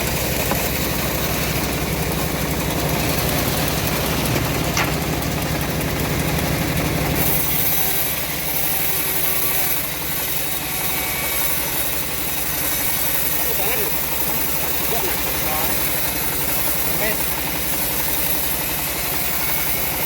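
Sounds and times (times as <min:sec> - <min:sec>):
bandsaw engine hum: 0:00.0 - 0:20.0
blade sawing through wood: 0:00.0 - 0:20.0.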